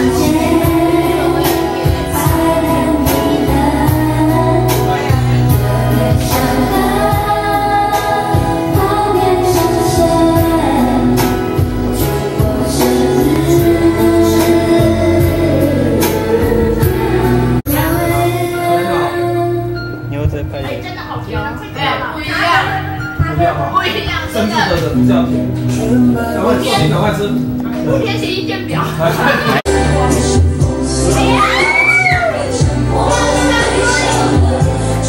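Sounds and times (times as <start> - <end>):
woman singing karaoke: 0.0 - 20.0, 25.6 - 27.1, 27.8 - 35.0
backing track with steady beat: 0.0 - 35.0.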